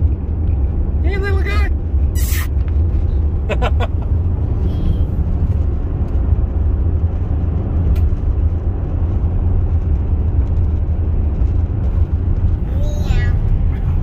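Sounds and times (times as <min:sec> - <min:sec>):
road and engine noise in car: 0:00.0 - 0:14.0.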